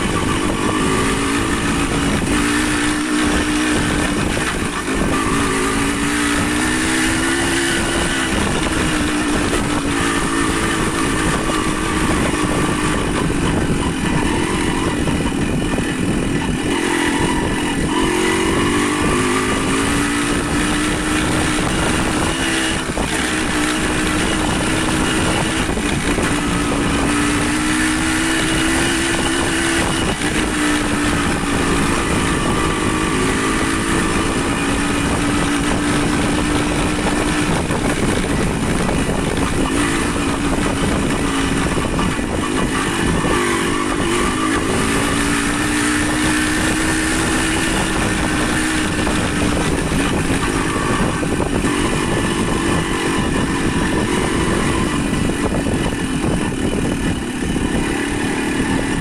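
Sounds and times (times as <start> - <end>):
constant rushing noise: 0.0 - 59.0
motorcycle engine running: 0.0 - 59.0.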